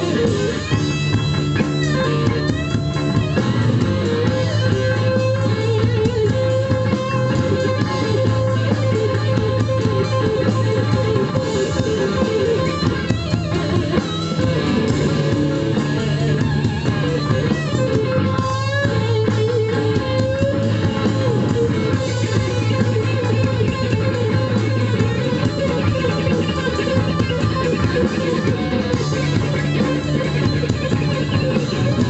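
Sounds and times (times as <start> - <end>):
electric guitar lines: 0.0 - 32.0.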